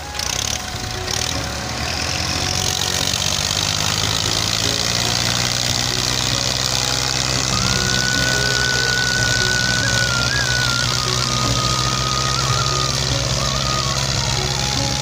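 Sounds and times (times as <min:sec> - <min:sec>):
tractor diesel engines labouring: 0:00.0 - 0:15.0.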